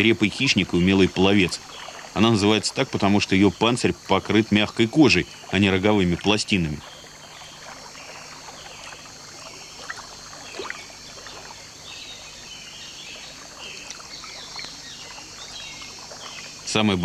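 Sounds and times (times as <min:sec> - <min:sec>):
faint water sounds: 0:00.0 - 0:17.0
high insect buzz: 0:00.0 - 0:17.0.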